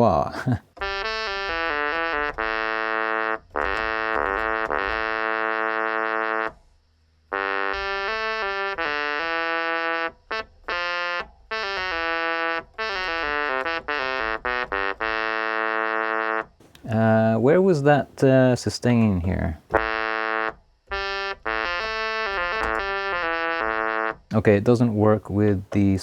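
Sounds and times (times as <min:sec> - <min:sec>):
electronic keyboard synth solo: 0:00.8 - 0:06.6, 0:07.3 - 0:26.0.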